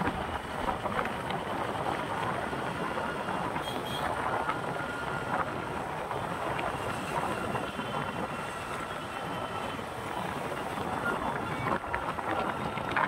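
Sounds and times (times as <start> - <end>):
road traffic rushing: 0.0 - 13.0
wind buffeting microphone: 0.0 - 13.0.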